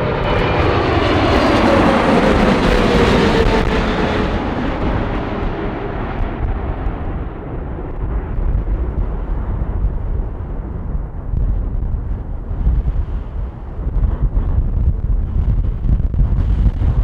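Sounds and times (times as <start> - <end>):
jet airliner passing: 0.0 - 17.0
wind rumble on microphone: 0.0 - 17.0.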